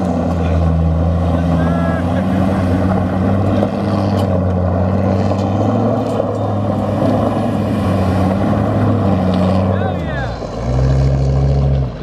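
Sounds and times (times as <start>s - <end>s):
truck engine at steady revs: 0.0s - 12.0s.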